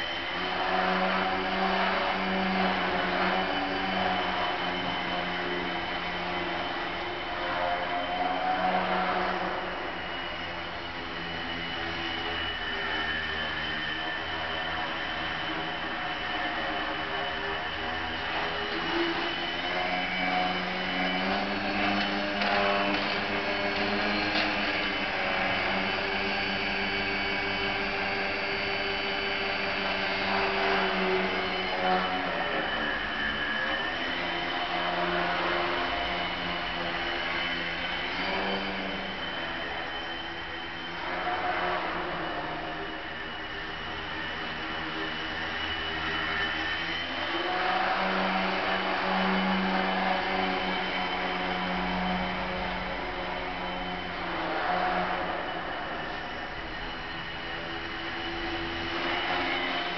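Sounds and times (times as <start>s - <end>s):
model plane motor whirring: 0.0s - 59.9s.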